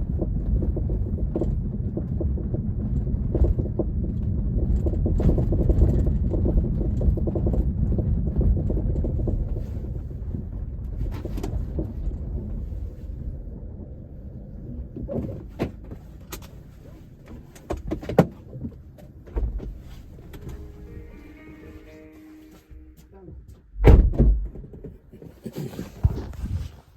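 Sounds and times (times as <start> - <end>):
car road rumble: 0.0 - 26.9.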